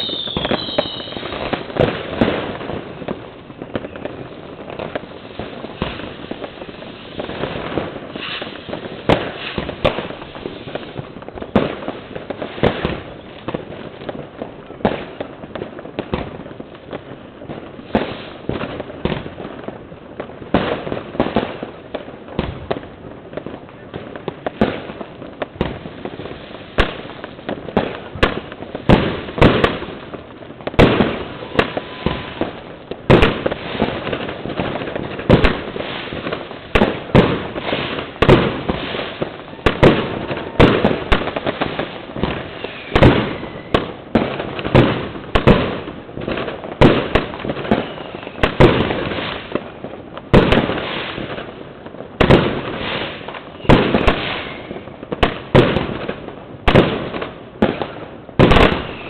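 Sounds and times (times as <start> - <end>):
fireworks banging: 0.0 - 59.0
fireworks crackling: 0.0 - 59.0.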